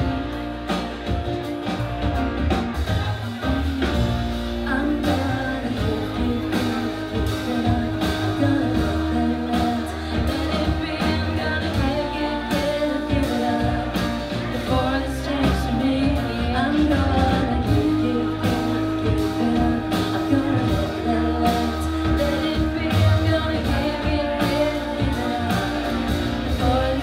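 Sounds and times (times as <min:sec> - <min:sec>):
electric bass: 0:00.0 - 0:27.0
keyboard: 0:00.0 - 0:27.0
women singing: 0:03.0 - 0:27.0.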